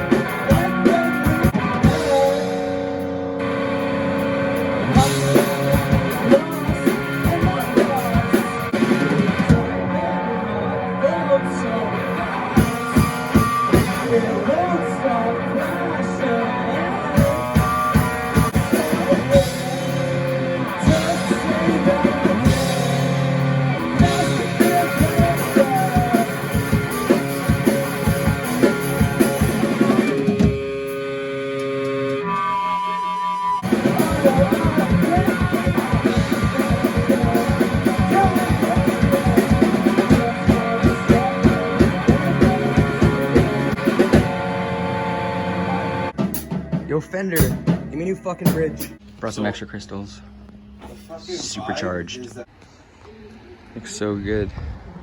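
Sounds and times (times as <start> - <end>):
rock band playing: 0.0 - 49.2.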